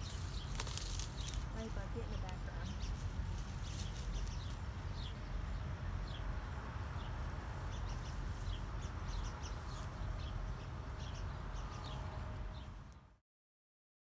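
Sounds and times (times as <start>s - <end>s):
small birds chirping: 0.0s - 13.2s
steady low rumble: 0.0s - 13.2s.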